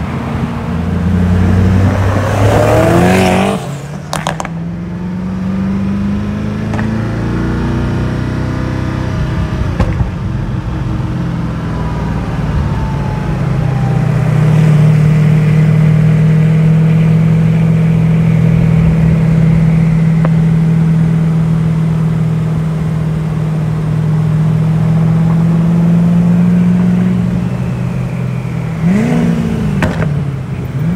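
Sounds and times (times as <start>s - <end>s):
car engines rolling: 0.0s - 30.9s.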